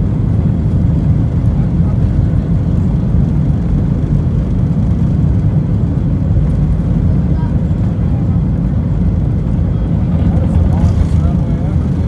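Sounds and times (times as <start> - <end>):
jet engines at low thrust: 0.0 - 12.0.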